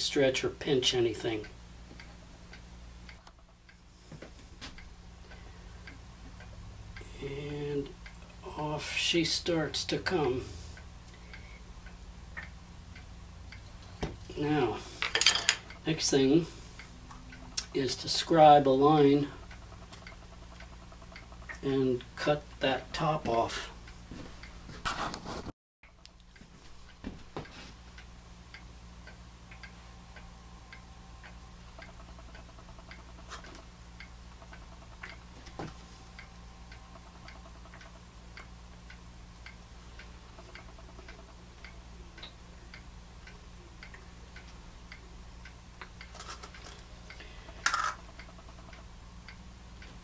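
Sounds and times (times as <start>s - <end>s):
low steady hum: 0.0s - 50.0s
steady ticking: 0.2s - 24.7s, 25.8s - 50.0s.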